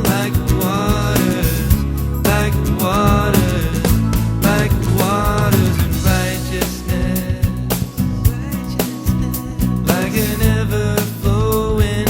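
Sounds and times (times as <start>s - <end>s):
song with bass and drums: 0.0s - 12.0s.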